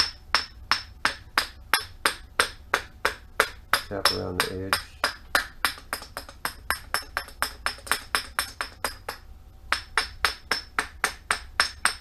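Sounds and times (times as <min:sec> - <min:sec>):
small hammer tapping on metal: 0:00.0 - 0:12.0.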